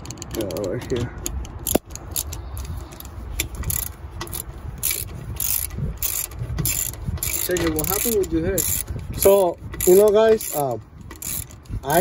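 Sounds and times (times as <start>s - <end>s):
socket ratchet clicking: 0.0s - 11.7s.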